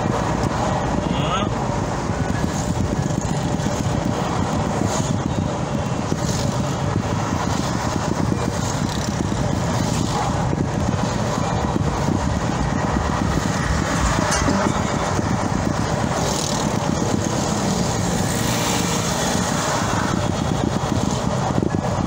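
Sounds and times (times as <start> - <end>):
car driving on highway: 0.0 - 22.0.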